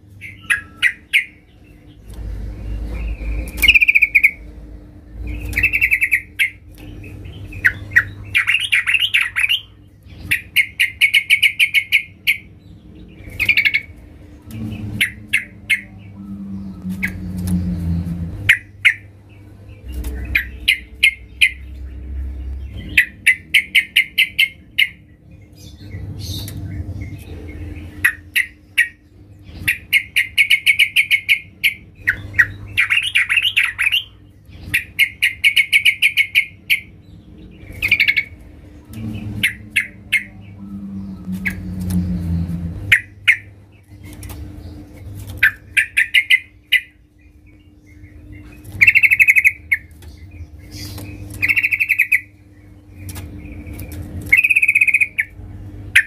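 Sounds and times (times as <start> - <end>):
bird chattering calls: 0.2 - 2.1, 2.7 - 4.5, 5.2 - 25.0, 25.9 - 56.0.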